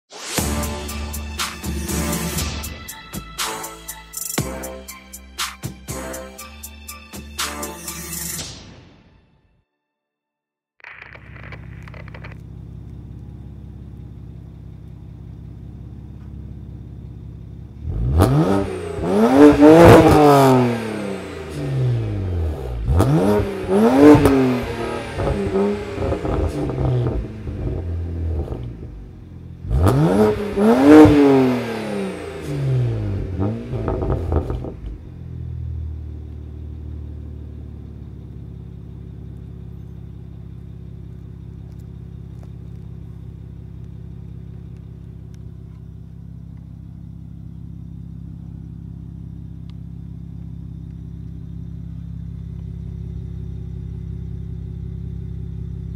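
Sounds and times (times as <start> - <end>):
car engine idling: 10.8 - 55.9
car engine revving: 10.8 - 55.9.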